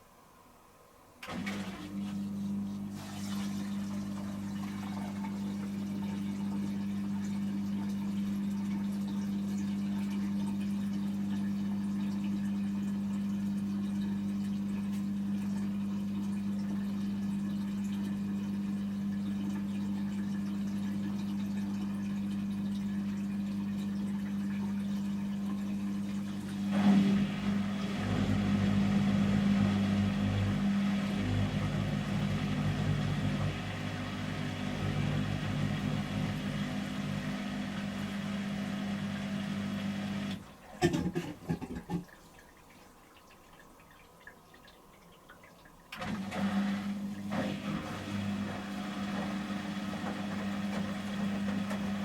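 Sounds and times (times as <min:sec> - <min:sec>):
washing machine drain pump humming: 0:00.0 - 0:52.0
washing machine spinning: 0:00.0 - 0:52.0.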